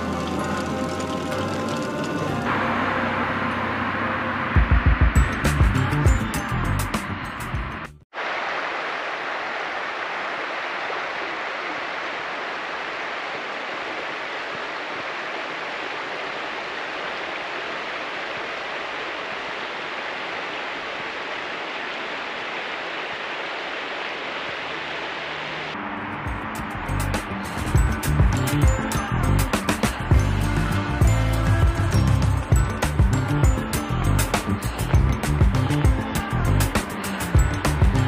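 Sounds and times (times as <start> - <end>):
stream water rushing: 0.0 - 4.8, 8.1 - 38.0.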